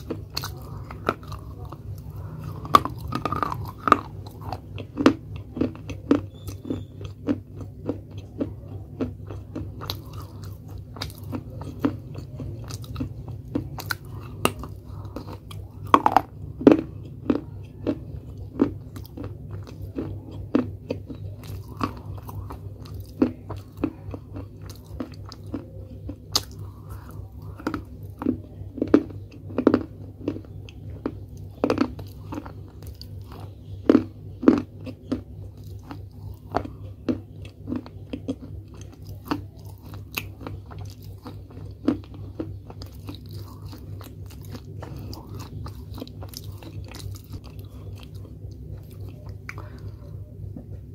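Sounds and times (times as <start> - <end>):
chewing brittle clay crunches: 0.0 - 50.9
low steady hum: 0.0 - 50.9.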